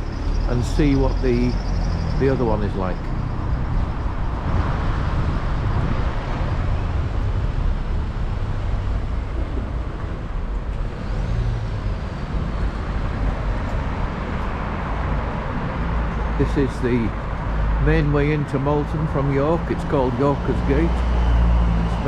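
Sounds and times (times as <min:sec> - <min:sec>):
passing road traffic rumble: 0:00.0 - 0:22.0.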